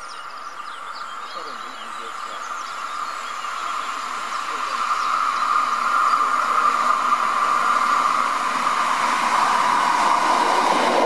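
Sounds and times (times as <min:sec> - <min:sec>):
electric train whirring: 0:00.0 - 0:11.0
high whine: 0:00.0 - 0:11.0.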